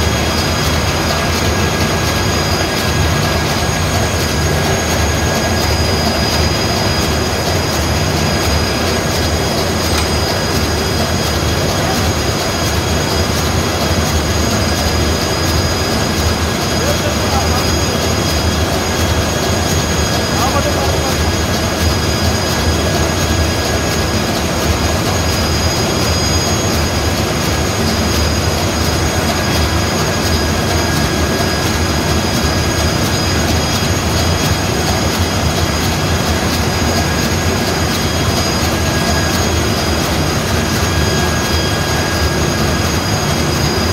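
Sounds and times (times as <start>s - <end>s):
high-pitched whines: 0.0s - 43.9s
marine diesel engine rumbling: 0.0s - 43.9s.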